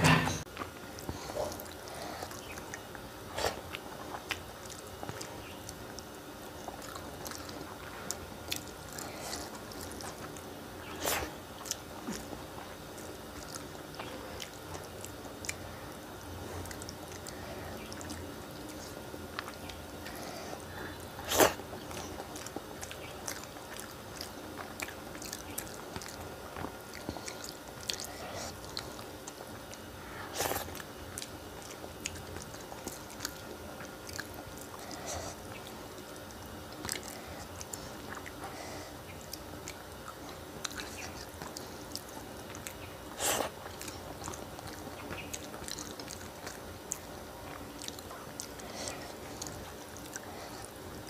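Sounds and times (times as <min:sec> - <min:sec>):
chewing and wet mouth sounds: 0:00.4 - 0:51.0.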